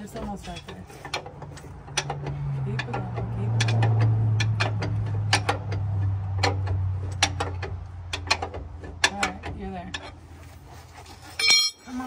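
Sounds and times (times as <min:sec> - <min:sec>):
ratchet wrench clicking: 0:00.3 - 0:10.2.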